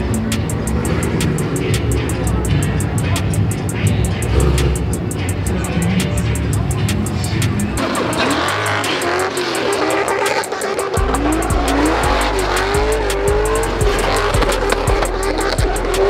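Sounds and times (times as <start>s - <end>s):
car engines revving: 0.0s - 16.0s
heavy bass line: 0.0s - 16.0s
music with ticking beat: 0.0s - 16.0s
tyres squealing: 0.0s - 16.0s.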